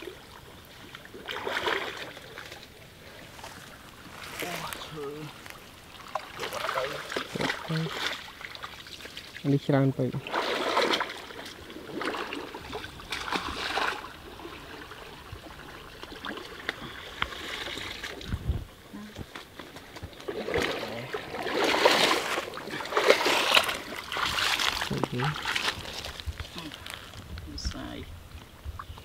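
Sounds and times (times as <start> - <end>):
pond water splashing: 0.0 - 28.0.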